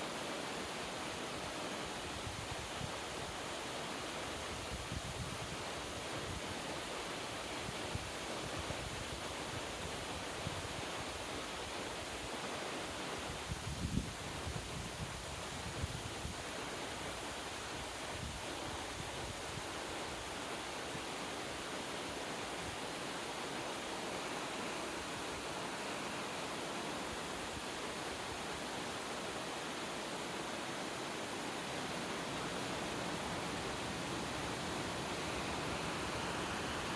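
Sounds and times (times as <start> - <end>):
mountain stream rushing: 0.0 - 36.9.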